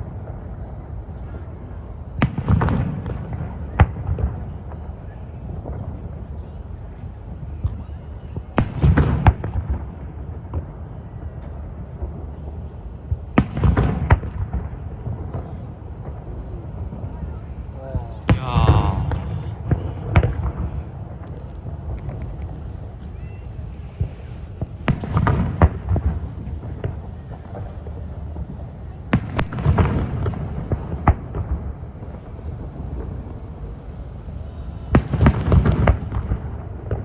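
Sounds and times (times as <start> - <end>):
fireworks bursting with sharp bangs: 0.0 - 37.0.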